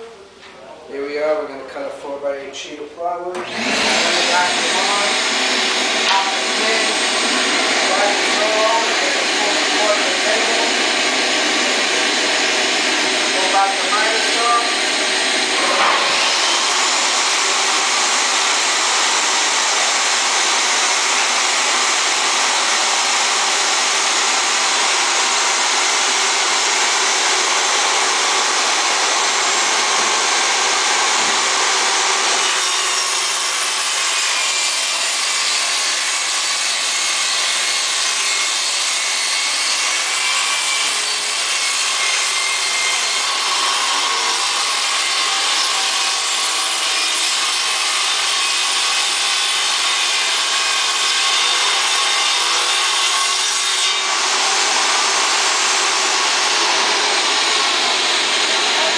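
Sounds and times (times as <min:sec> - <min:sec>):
saw cutting plywood: 0:03.4 - 0:58.9
table saw running: 0:03.4 - 0:58.9.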